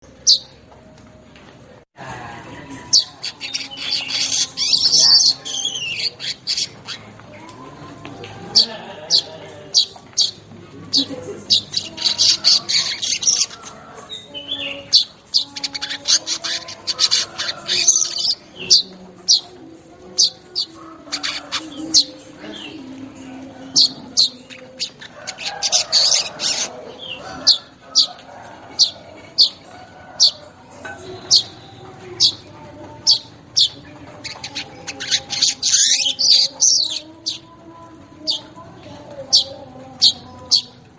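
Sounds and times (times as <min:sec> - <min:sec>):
buzzy high bird chatter: 0:00.0 - 0:00.7, 0:02.7 - 0:40.9.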